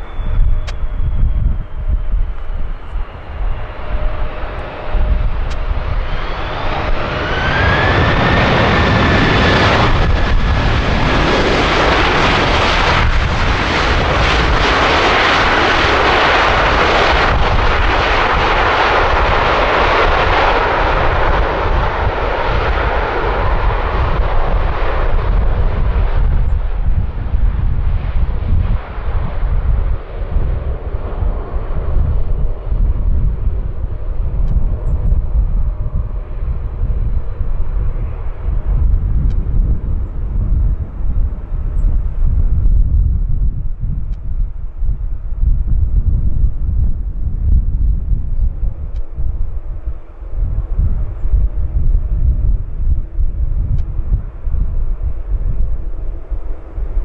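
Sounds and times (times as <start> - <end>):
jet airliner engine roar: 0.0 - 57.0
wind rumbling on microphone: 0.0 - 57.0.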